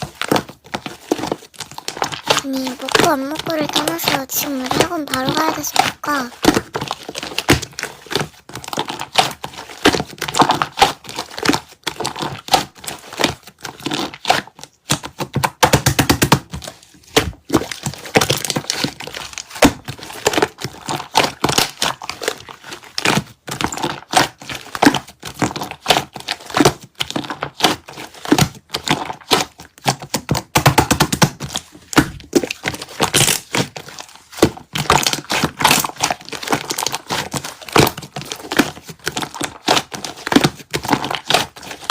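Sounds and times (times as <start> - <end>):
slime squished by hand: 0.0 - 41.9.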